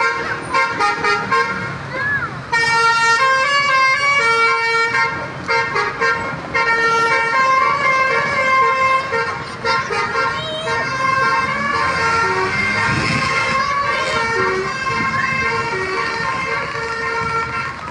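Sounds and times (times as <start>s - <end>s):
truck horn playing a tune: 0.0s - 1.9s, 2.5s - 17.9s.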